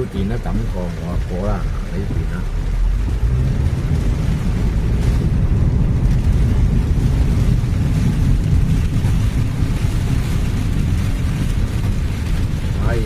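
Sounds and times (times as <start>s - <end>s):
rain: 0.0s - 13.0s
tyres rumbling in standing water: 0.0s - 13.0s
wind noise: 0.0s - 13.0s.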